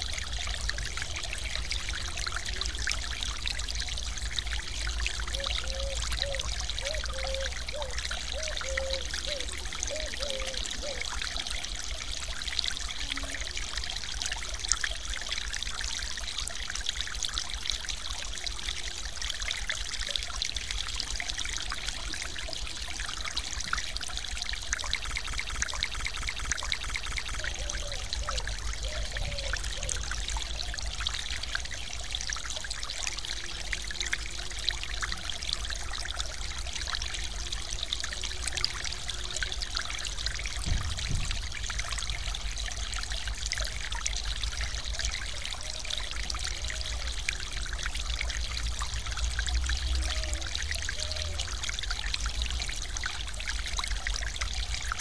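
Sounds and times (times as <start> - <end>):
stream water splashing over waterfall: 0.0 - 55.0.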